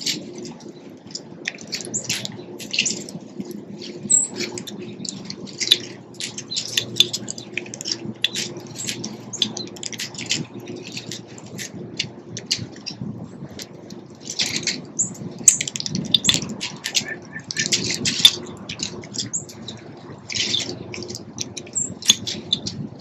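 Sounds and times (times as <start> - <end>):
low steady hum: 0.0 - 23.0
small birds chirping: 0.4 - 11.7, 14.3 - 22.8.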